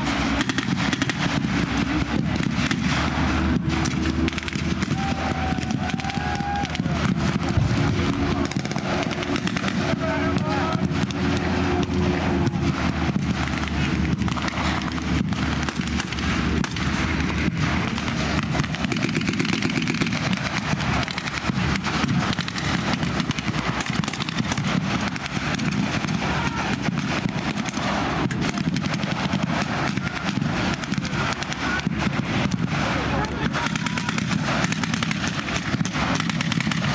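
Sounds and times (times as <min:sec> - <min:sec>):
military vehicle engines running: 0:00.0 - 0:36.9.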